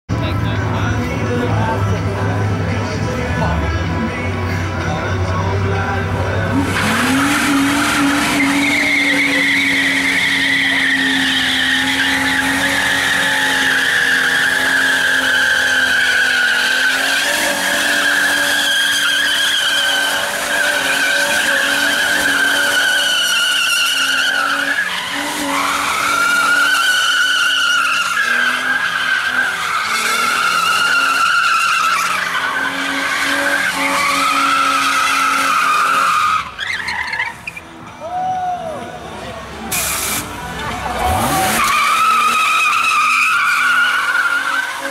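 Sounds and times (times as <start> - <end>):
car engine revving high: 0.2 - 36.6, 39.5 - 44.9
tyres squealing: 6.4 - 37.8, 39.6 - 44.9.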